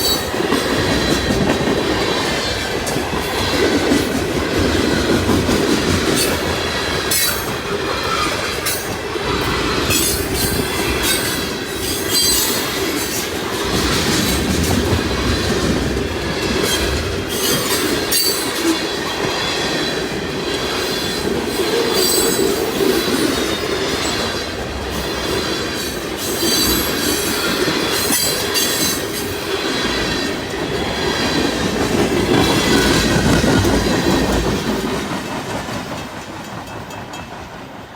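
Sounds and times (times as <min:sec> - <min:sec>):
train wheels clacking over rail joints: 0:00.0 - 0:37.9.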